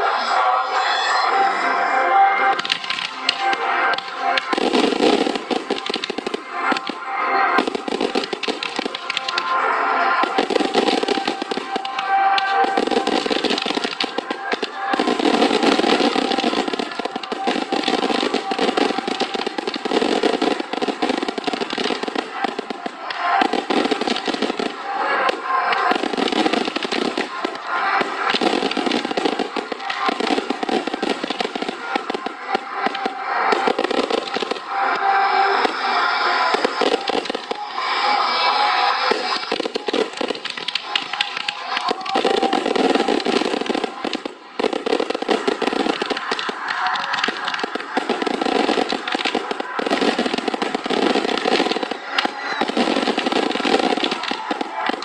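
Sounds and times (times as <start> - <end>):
music playing: 0.0 - 55.0
fireworks popping and crackling: 2.3 - 55.0.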